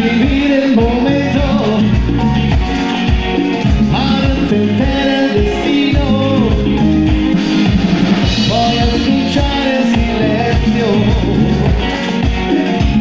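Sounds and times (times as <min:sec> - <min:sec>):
person singing: 0:00.0 - 0:07.6, 0:08.2 - 0:13.0
live salsa band playing: 0:00.0 - 0:13.0.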